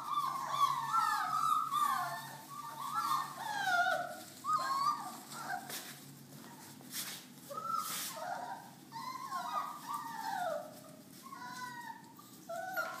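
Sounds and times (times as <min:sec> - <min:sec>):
puppies whining and squeaking: 0:00.0 - 0:13.0.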